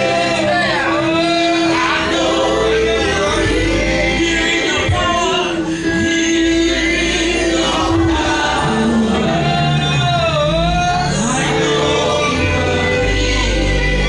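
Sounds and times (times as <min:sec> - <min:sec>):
gospel singing with instrumental backing: 0:00.0 - 0:14.0.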